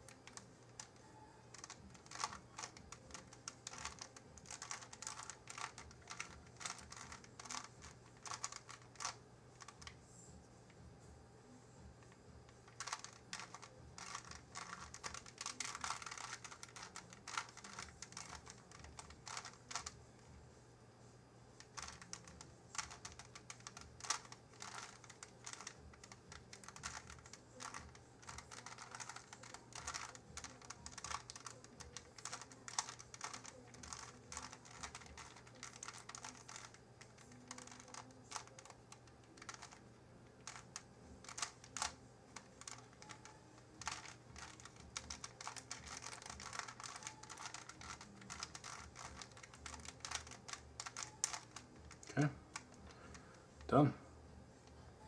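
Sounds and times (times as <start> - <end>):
plastic puzzle cube clicking: 0.0 - 10.0, 12.6 - 20.0, 21.6 - 53.0.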